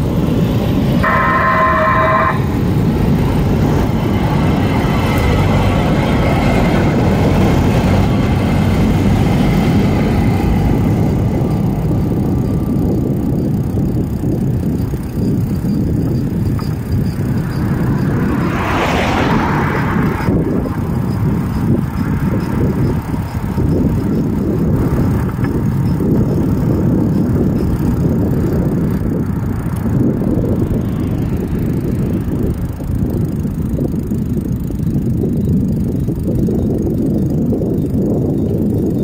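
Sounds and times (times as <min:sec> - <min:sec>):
tyres rumbling on asphalt: 0:00.0 - 0:39.0
wind buffeting microphone: 0:00.0 - 0:39.0.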